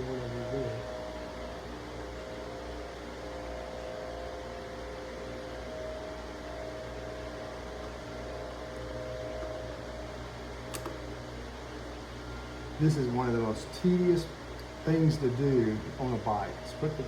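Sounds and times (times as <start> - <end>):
mechanical hum of room equipment: 0.0 - 17.0.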